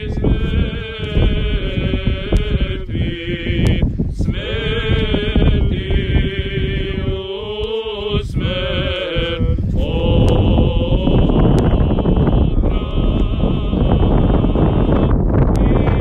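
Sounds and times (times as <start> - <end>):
clergy chanting a hymn: 0.0 - 16.0.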